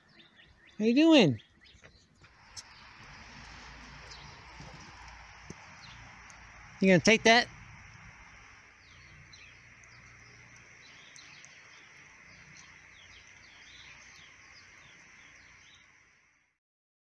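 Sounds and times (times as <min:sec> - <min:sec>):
faint songbird chirping: 0:00.0 - 0:16.5.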